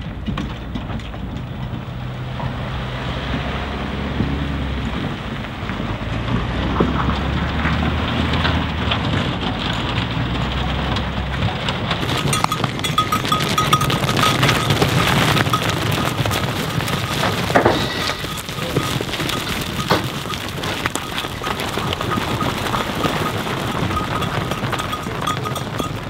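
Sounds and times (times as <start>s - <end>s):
diesel truck engine rumbling: 0.0s - 26.0s
dense crackling and clicking: 4.8s - 26.0s.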